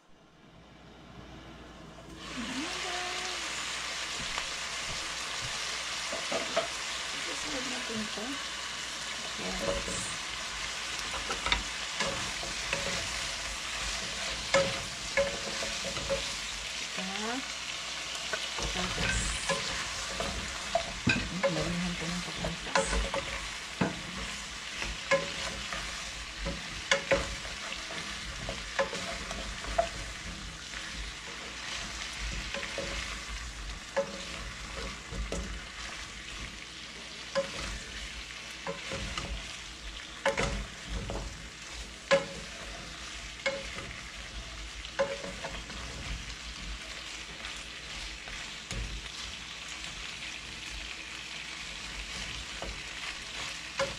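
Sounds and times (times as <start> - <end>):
food sizzling in a pan: 2.1 - 53.9
wooden spatula scraping a pan: 9.0 - 51.0, 51.6 - 53.9.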